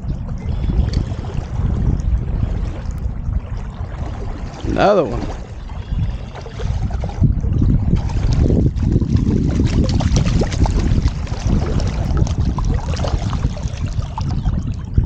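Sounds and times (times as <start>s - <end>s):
low rumble: 0.0s - 15.0s
small water splashes: 0.0s - 15.0s.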